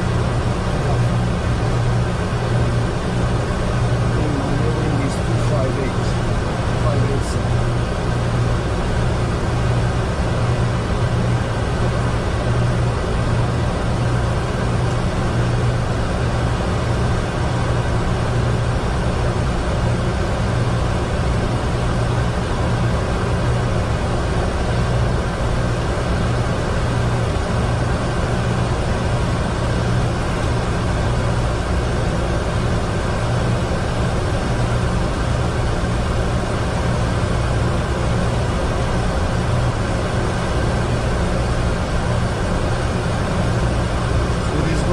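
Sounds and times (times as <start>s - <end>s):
low engine hum: 0.0s - 44.9s.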